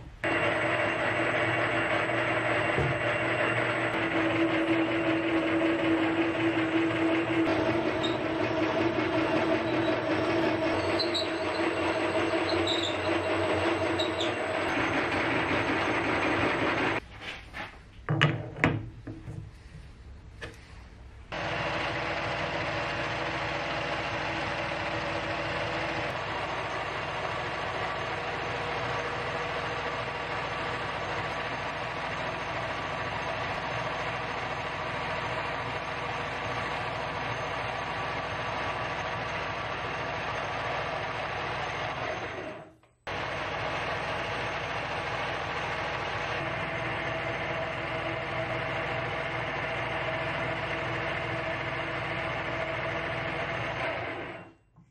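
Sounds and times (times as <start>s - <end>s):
metal lathe whirring: 0.2s - 17.0s, 21.4s - 54.6s.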